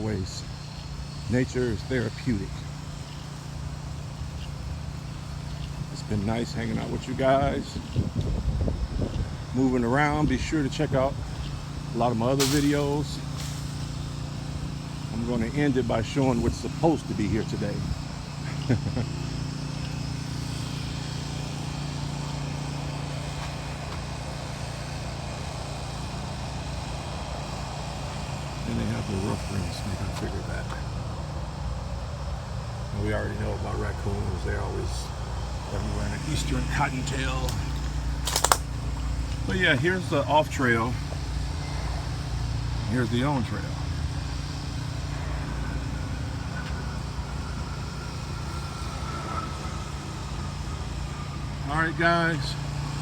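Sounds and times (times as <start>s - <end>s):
highway traffic drone: 0.0s - 53.0s
passing vehicle whine: 0.0s - 53.0s.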